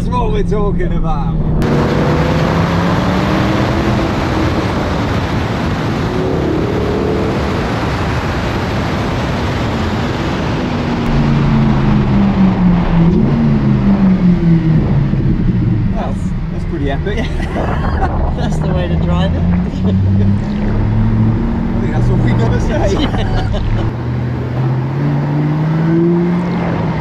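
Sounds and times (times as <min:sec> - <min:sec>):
car engine accelerating: 0:00.0 - 0:27.0
wind and road noise: 0:00.0 - 0:27.0.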